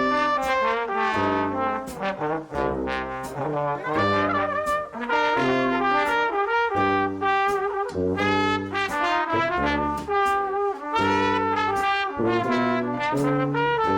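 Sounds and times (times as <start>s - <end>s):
brass horns playing music: 0.0s - 13.9s.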